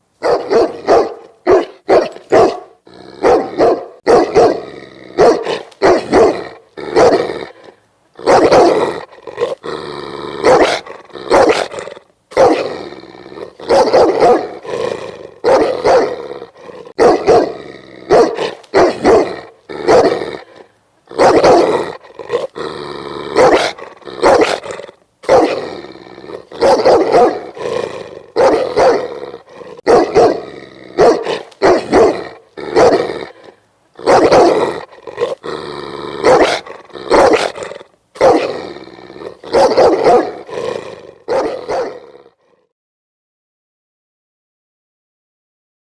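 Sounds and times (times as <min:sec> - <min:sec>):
large dog barking angrily: 0:00.2 - 0:42.4
dog growling: 0:00.3 - 0:42.7.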